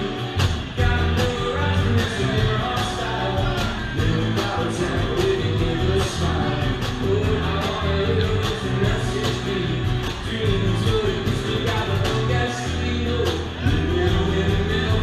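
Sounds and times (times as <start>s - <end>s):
bass guitar: 0.0s - 15.0s
electric guitars: 0.0s - 15.0s
person singing: 0.0s - 15.0s
steady drum beat: 0.0s - 15.0s.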